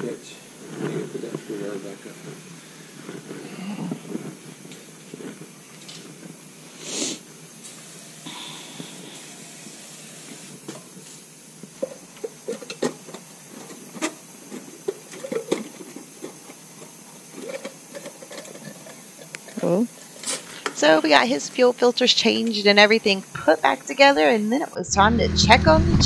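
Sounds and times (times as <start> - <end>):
faint steady hiss: 0.0 - 25.1.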